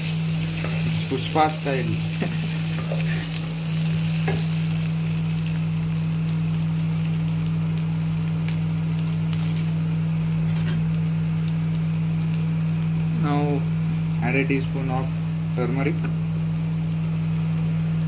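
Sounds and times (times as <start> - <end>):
onions sizzling in a pan: 0.0 - 18.0
steady low hum: 0.0 - 18.0.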